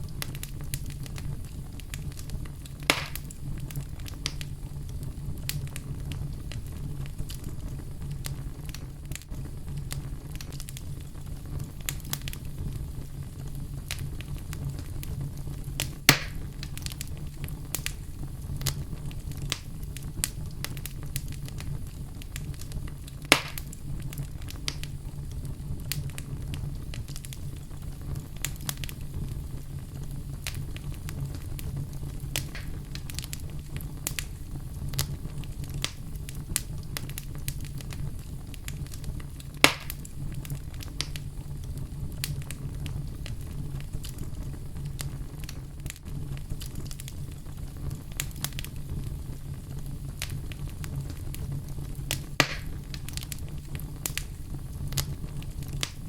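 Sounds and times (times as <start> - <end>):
fireplace fire crackling: 0.0 - 56.0
loud fire pops: 0.0 - 56.0.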